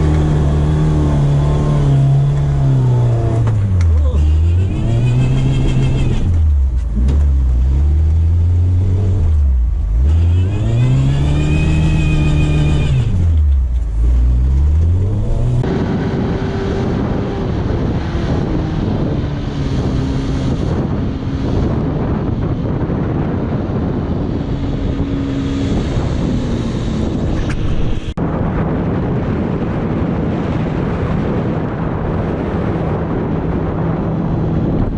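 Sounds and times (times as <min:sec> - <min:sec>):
car engine revving: 0:00.0 - 0:28.2.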